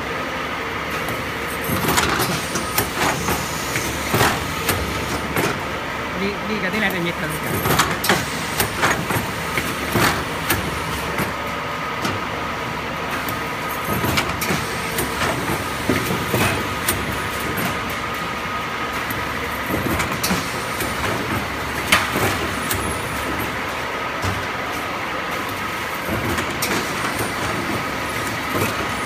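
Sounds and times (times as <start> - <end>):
machine mechanical hum: 0.0 - 29.0
pneumatic clicks and clacks: 0.9 - 5.7, 7.4 - 12.2, 13.1 - 18.2, 18.9 - 29.0.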